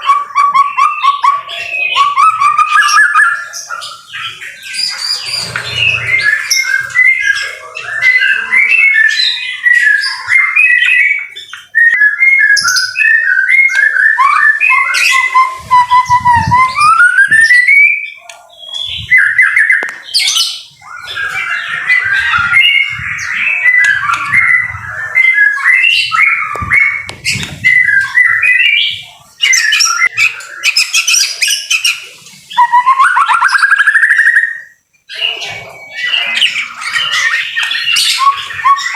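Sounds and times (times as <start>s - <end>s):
songbird singing varied song: 0.0s - 38.9s.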